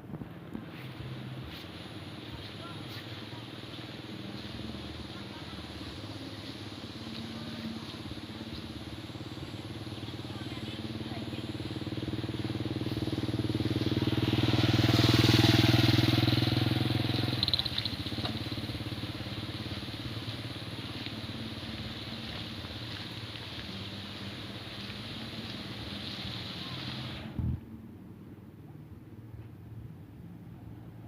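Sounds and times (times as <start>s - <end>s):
motorcycle engine passing: 0.9s - 27.6s.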